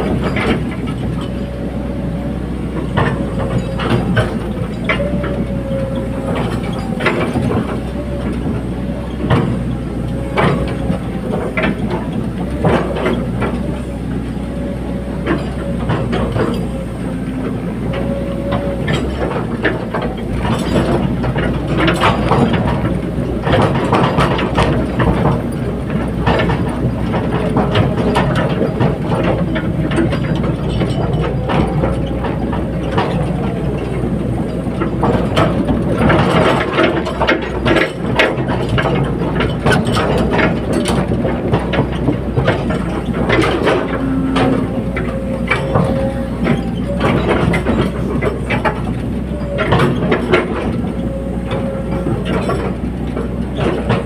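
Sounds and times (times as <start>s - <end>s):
diesel engine under load: 0.0s - 54.0s
hydraulic whine: 0.0s - 54.0s
metallic clanks and clatter: 0.0s - 54.0s.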